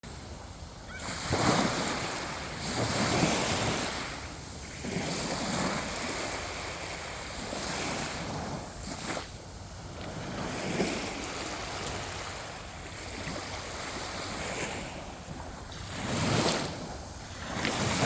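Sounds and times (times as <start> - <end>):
sea waves breaking on beach: 0.0 - 18.0
wind on microphone: 0.0 - 18.0.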